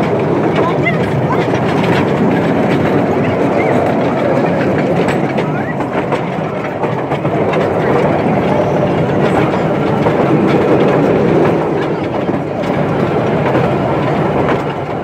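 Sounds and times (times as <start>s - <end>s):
irregular track clicking: 0.0s - 15.0s
train wheels rumbling on rail: 0.0s - 15.0s.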